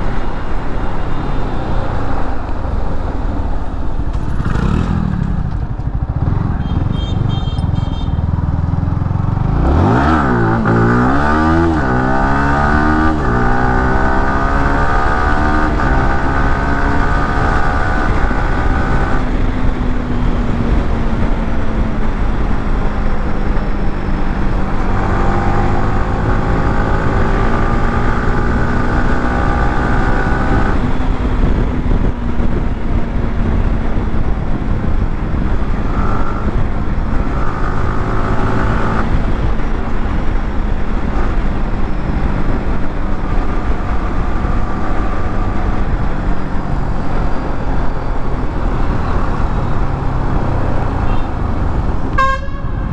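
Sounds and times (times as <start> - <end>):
motorcycle engine revving: 1.6 - 52.9.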